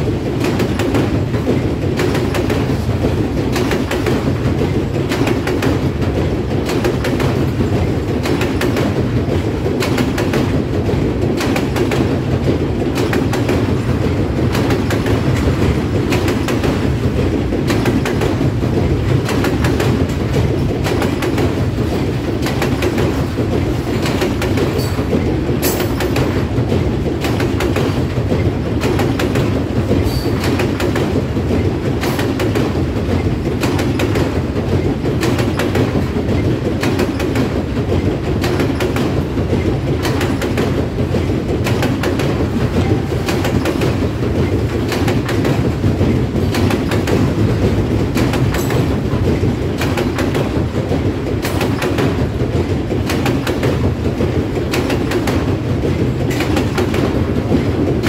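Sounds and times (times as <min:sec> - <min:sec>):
freight train wheels rumbling: 0:00.0 - 0:58.0
wheels clicking on rail: 0:00.0 - 0:58.0.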